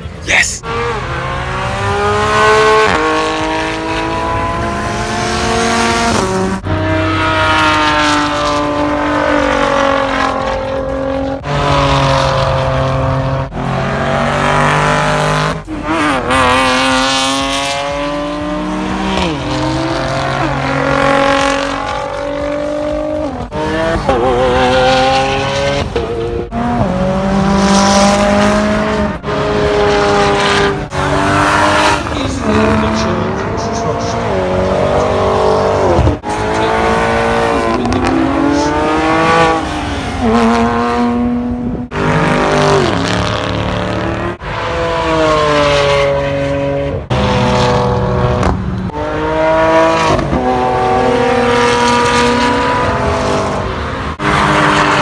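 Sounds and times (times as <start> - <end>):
race car engines revving past: 0.0 - 55.0.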